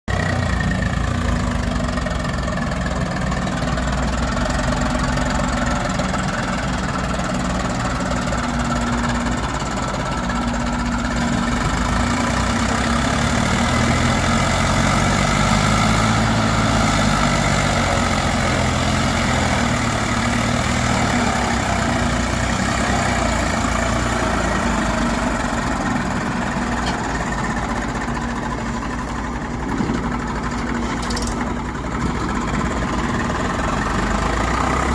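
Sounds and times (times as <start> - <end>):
tractor diesel engine knocking: 0.1 - 34.9.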